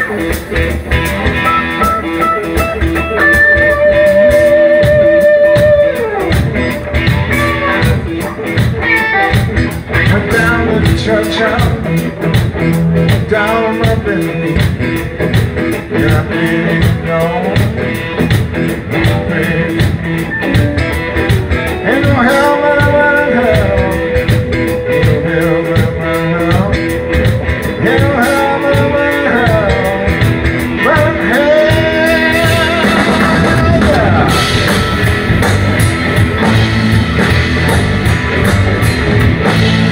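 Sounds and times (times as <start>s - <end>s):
electric blues band playing: 0.0s - 39.9s
lead guitar bending notes: 0.0s - 39.9s.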